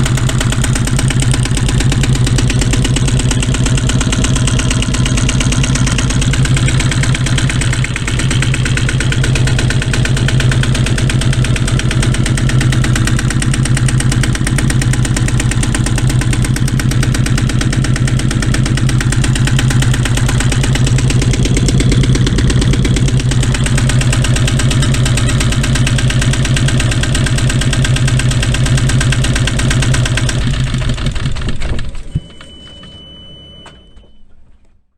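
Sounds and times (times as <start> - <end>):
boat engine idling: 0.0 - 31.5.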